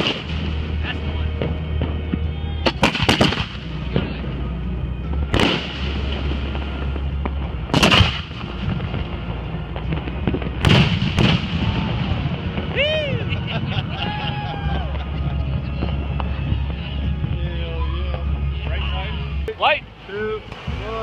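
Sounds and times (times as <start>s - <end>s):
fireworks bangs: 0.0s - 17.4s, 20.4s - 21.0s.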